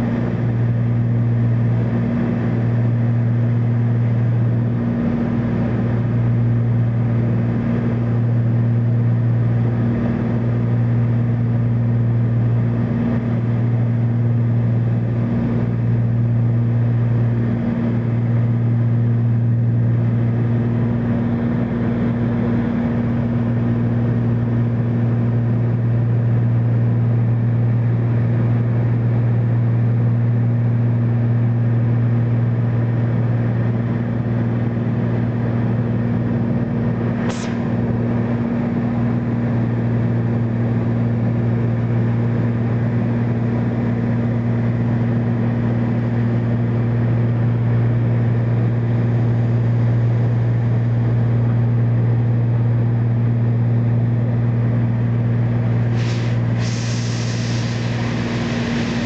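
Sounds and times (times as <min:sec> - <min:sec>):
aircraft engines droning in cabin: 0:00.0 - 0:59.0.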